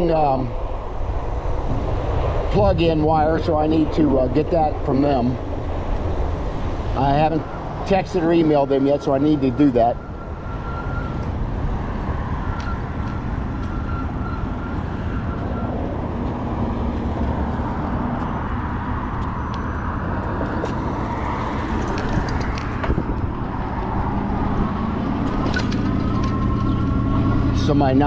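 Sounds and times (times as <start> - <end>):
wind buffeting microphone: 0.0 - 28.0
tyre noise on pavement: 4.4 - 28.0.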